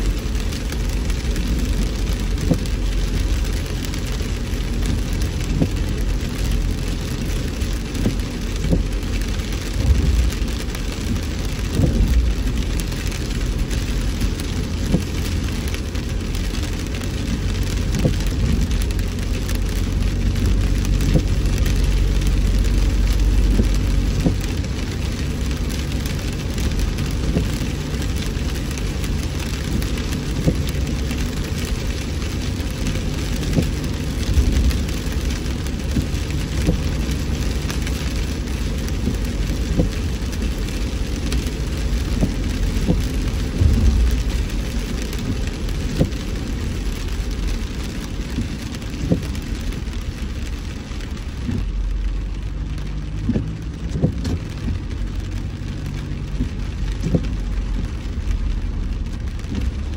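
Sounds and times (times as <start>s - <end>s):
rain drops ticking on car: 0.0s - 59.9s
road and engine rumble: 0.0s - 59.9s.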